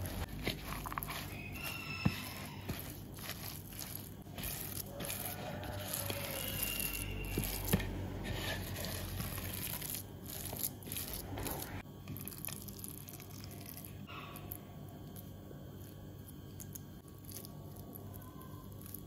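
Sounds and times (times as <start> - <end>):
spatula squishing dough: 0.0 - 19.0.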